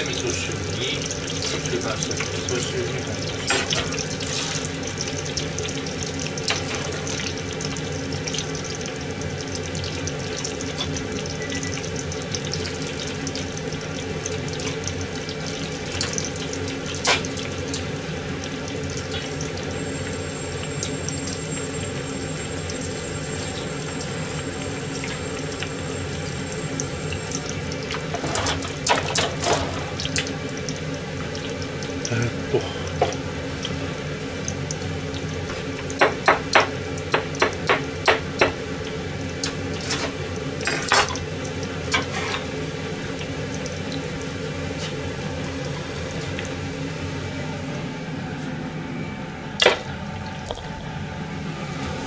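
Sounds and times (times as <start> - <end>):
food deep-frying in oil: 0.0 - 52.0.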